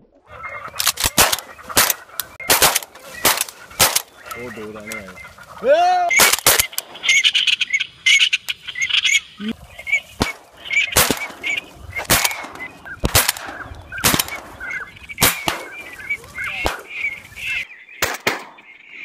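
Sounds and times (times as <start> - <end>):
ducks quacking: 0.1 - 19.0
high chirps chatter: 0.3 - 17.8.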